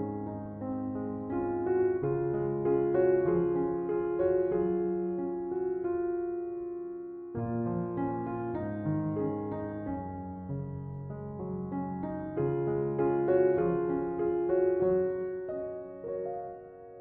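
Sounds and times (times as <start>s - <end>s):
slow keyboard melody: 0.0s - 17.0s.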